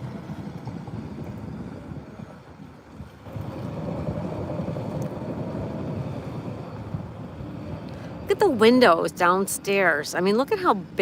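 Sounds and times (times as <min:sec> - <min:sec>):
boat engines droning: 0:00.0 - 0:11.0
steady hum: 0:00.0 - 0:11.0
wind buffeting microphone: 0:00.0 - 0:11.0.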